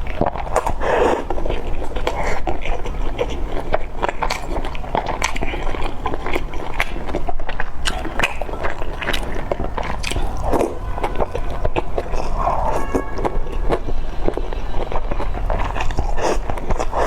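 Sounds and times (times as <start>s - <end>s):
wet chewing mouth clicks: 0.0s - 17.0s.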